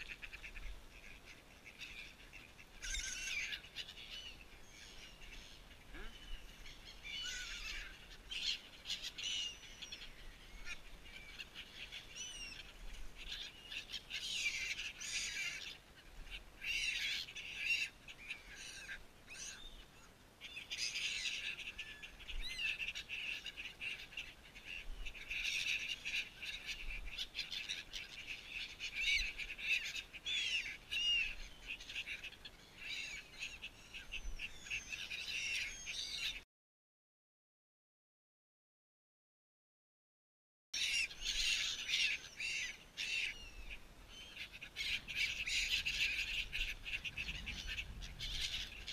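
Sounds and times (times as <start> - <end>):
gulls calling: 0.0 - 36.4, 40.8 - 48.9.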